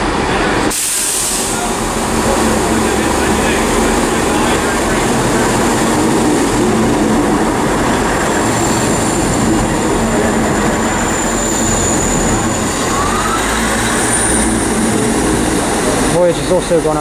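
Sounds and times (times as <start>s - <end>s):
diesel train engines and wheels: 0.0s - 17.0s.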